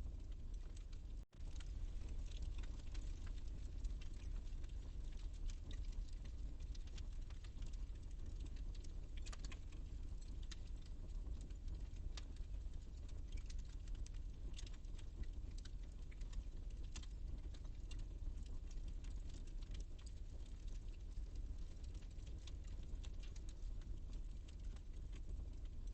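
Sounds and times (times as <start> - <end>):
fire crackling and popping: 0.0 - 25.9
low rumble of flames: 0.0 - 25.9.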